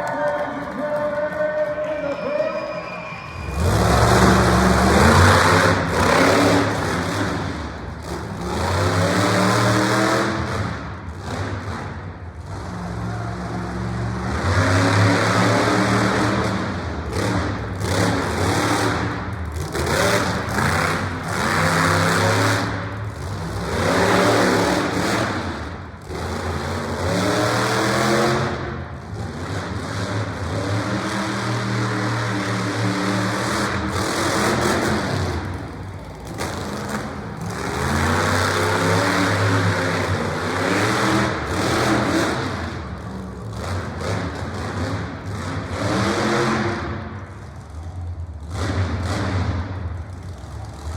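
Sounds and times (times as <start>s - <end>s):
monster truck engine revving: 0.0s - 50.9s.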